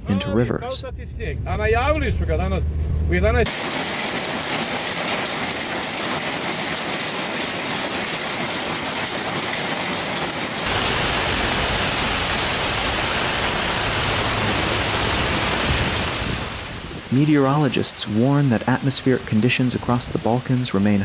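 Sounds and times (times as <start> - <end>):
heavy rain pouring: 3.4 - 21.0.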